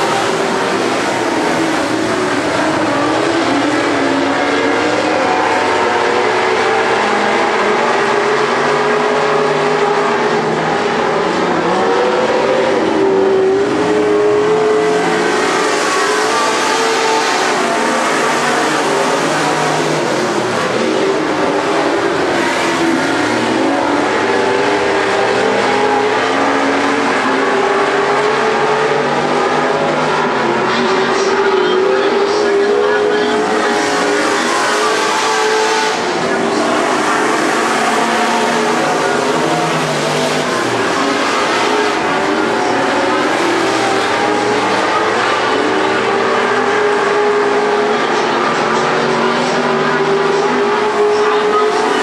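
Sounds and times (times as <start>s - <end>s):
racing car engines: 0.0s - 52.0s.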